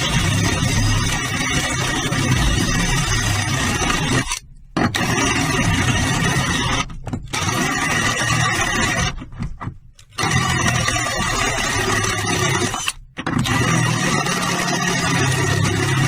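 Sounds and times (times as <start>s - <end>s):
small power tool motor: 0.0s - 9.2s, 10.0s - 16.0s.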